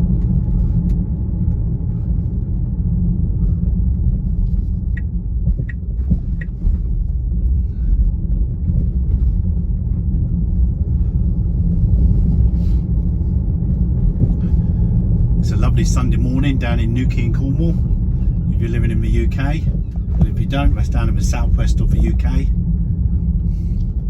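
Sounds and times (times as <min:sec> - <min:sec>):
road and tyre rumble: 0:00.0 - 0:24.0.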